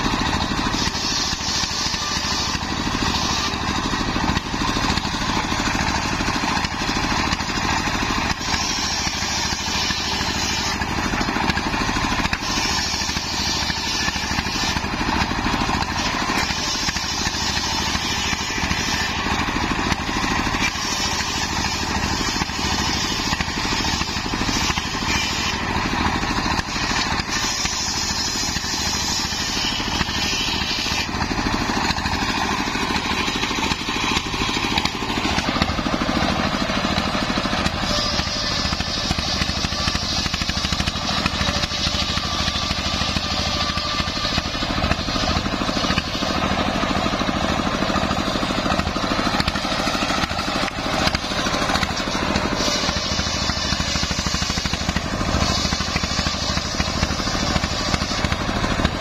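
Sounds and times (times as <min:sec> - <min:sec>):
circular saw cutting wood: 0:00.0 - 0:59.0
diesel engine running: 0:00.0 - 0:59.0.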